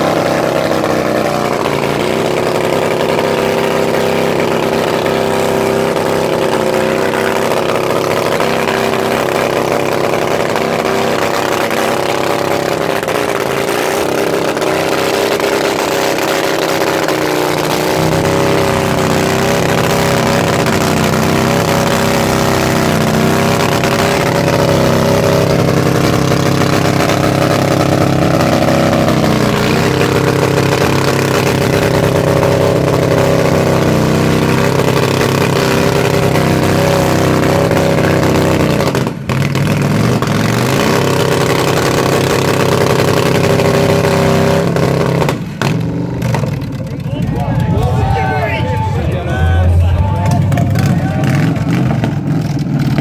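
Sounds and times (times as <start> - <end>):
motorcycle engine at high revs: 0.0 - 48.2, 49.8 - 53.0.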